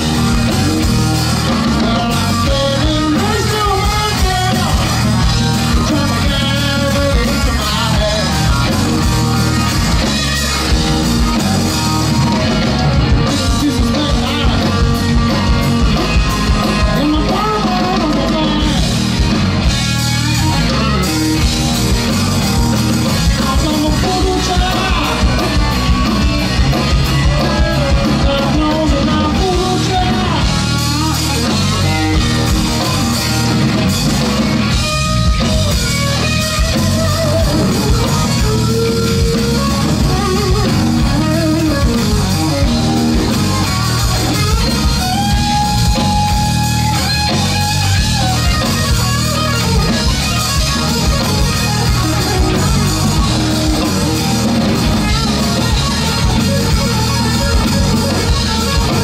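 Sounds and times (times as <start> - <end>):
bass guitar: 0.0 - 59.0
drum kit: 0.0 - 59.0
electric guitar lead: 0.0 - 59.0.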